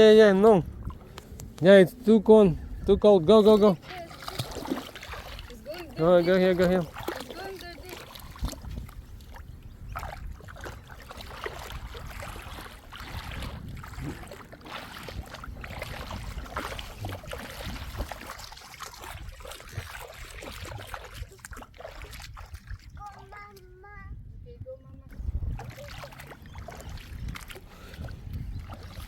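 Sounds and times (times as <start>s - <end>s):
lake water splashing: 0.0s - 23.8s, 25.1s - 29.0s
wind rumble on microphone: 0.0s - 29.0s.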